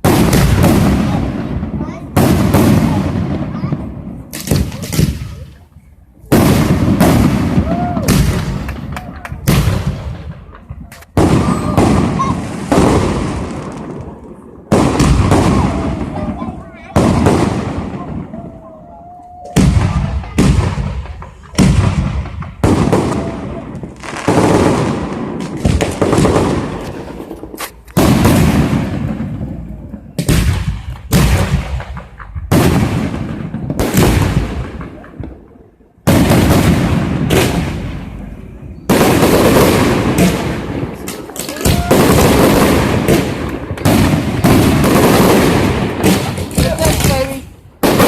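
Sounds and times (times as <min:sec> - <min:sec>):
fireworks banging: 0:00.0 - 0:48.0.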